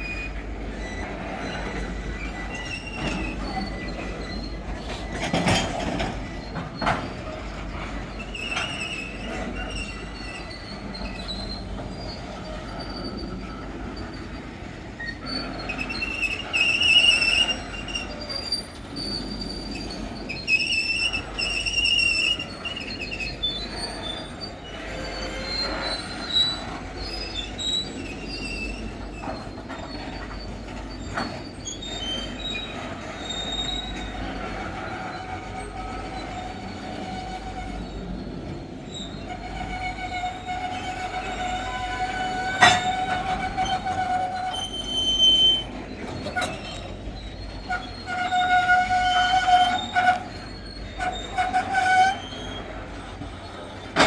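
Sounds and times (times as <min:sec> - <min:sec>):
freight train rolling past: 0:00.0 - 0:54.0
wheels squealing on rails: 0:00.0 - 0:54.0.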